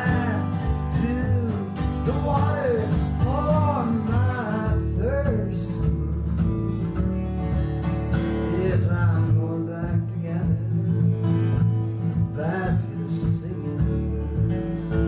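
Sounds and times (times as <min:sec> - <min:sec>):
acoustic guitar folk music: 0:00.0 - 0:15.0.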